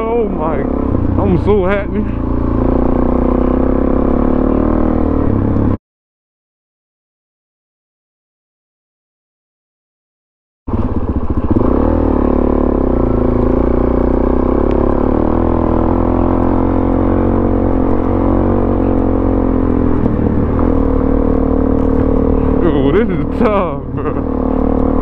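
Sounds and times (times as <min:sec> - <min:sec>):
motorcycle engine running: 0:00.0 - 0:05.8, 0:10.7 - 0:25.0.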